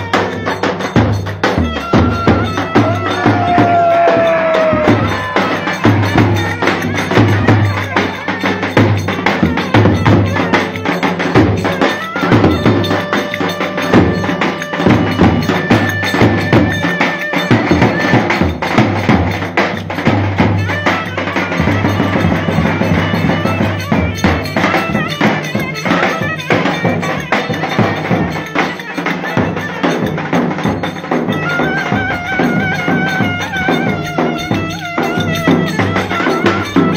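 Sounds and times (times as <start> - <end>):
folk band music: 0.0 - 36.9
steady drum beat: 0.0 - 36.9.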